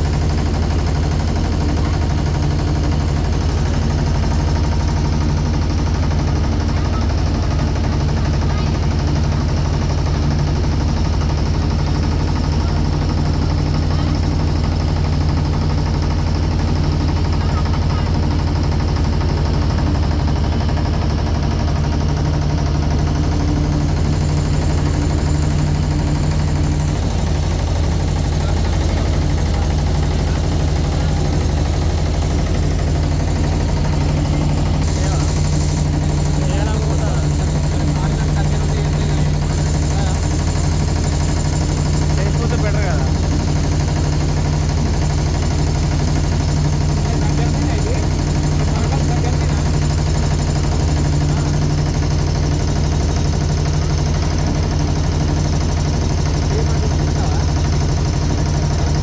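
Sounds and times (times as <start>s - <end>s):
boat engine chugging: 0.0s - 59.0s.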